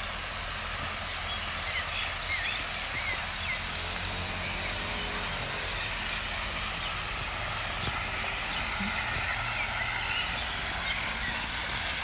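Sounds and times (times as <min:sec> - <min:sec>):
fountain spray splashing on water: 0:00.0 - 0:12.0.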